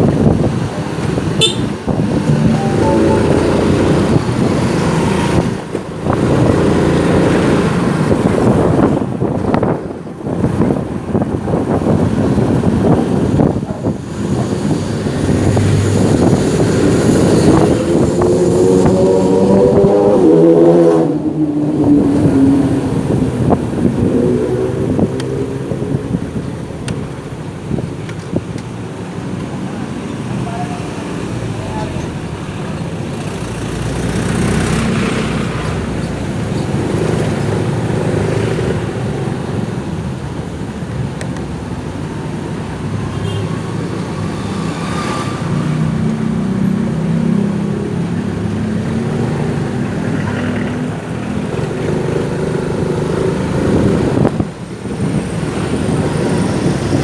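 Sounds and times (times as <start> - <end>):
rushing road noise: 0.0 - 57.0.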